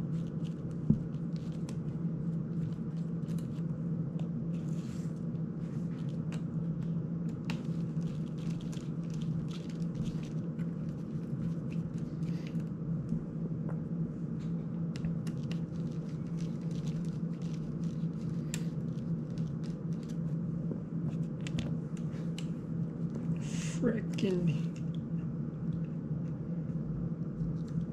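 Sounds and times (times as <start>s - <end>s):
low room hum: 0.0s - 27.9s.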